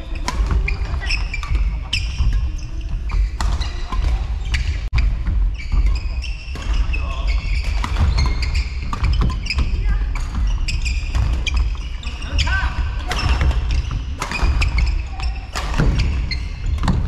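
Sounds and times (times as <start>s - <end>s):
shoe squeaks on court floor: 0.6s - 17.0s.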